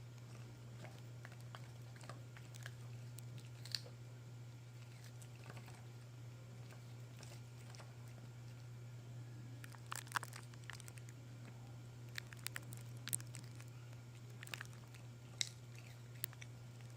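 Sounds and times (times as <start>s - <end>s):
kitten crunching food: 0.0s - 8.8s, 9.6s - 16.9s
steady low hum: 0.0s - 16.9s.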